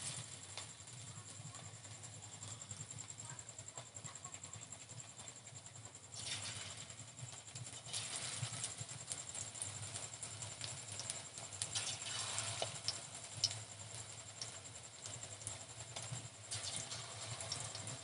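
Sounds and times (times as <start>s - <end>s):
food frying in hot oil: 0.0s - 18.0s
oil crackling and popping: 0.0s - 18.0s.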